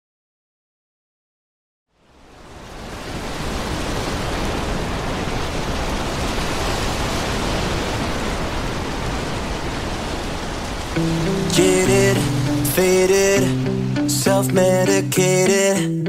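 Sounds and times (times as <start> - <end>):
rain-like noise hiss: 2.0 - 15.8.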